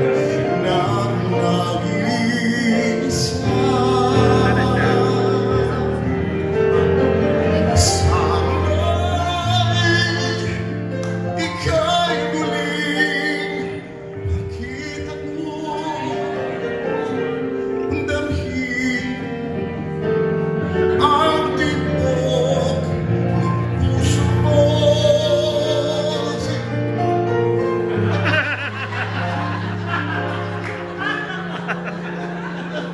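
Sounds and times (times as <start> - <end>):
man singing into microphone: 0.0 - 27.2.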